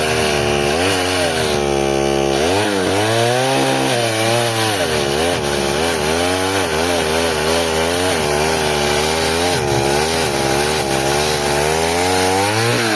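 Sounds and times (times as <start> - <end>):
chainsaw cutting under load: 0.0 - 12.9.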